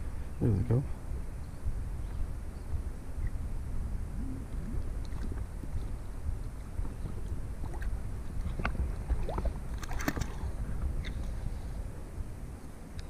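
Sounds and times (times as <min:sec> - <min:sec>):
wind rumble on microphone: 0:00.0 - 0:13.0
water moving around kayak: 0:01.0 - 0:13.0.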